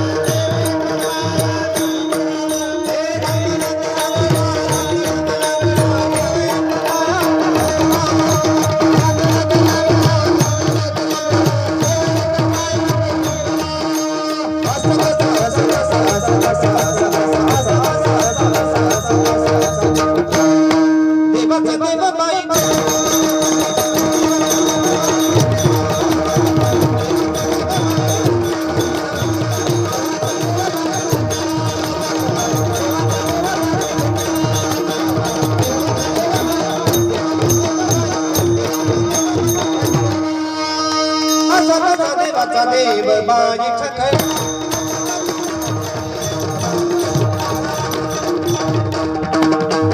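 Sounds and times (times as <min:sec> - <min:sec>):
tabla playing a brisk rhythm: 0:00.0 - 0:49.9.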